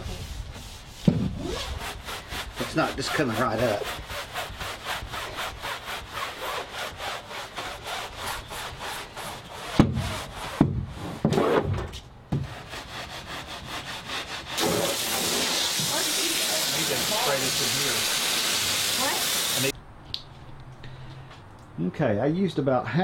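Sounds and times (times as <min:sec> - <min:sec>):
brush scrubbing wet deck: 0:00.0 - 0:11.2, 0:12.4 - 0:19.8.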